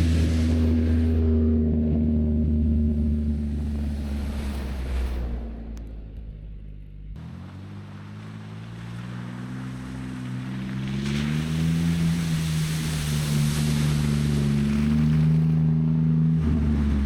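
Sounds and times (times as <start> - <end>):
car engine pulling away: 0.0 - 17.0
road and wind noise: 0.0 - 17.0.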